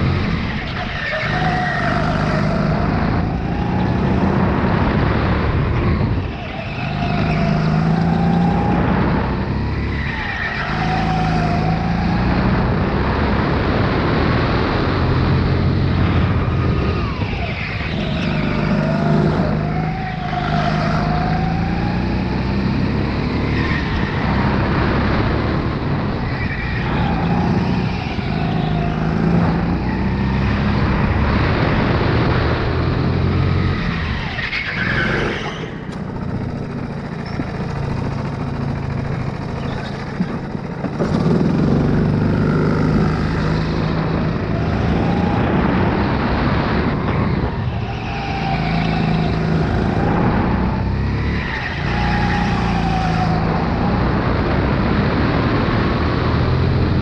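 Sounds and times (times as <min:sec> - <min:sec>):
go-kart engine racing: 0:00.0 - 0:57.0.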